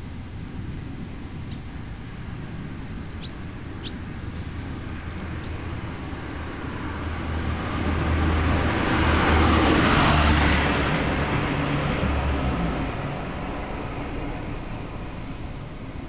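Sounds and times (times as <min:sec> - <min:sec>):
steady low hum: 0:00.0 - 0:09.9, 0:10.7 - 0:16.0
road vehicle passing: 0:00.0 - 0:16.0.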